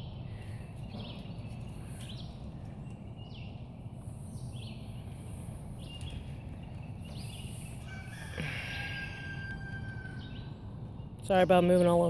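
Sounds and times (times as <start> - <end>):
bird chirping: 0.0 - 12.0
low outdoor rumble: 0.0 - 12.0.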